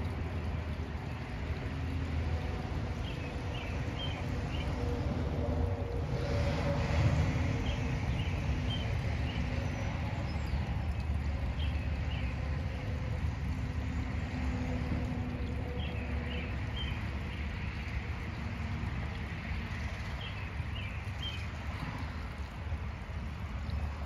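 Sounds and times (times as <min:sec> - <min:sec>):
low outdoor rumble: 0:00.0 - 0:24.0
rush of wind-like noise: 0:00.0 - 0:24.0.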